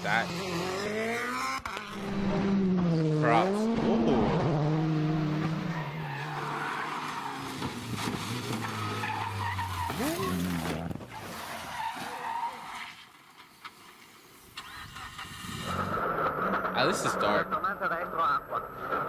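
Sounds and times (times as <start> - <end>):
tyres skidding: 0.0 - 19.0.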